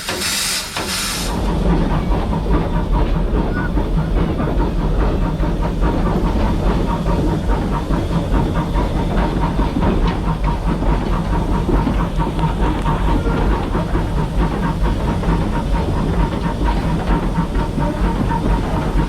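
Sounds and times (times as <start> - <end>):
steam locomotive hissing and clattering: 0.0 - 19.0.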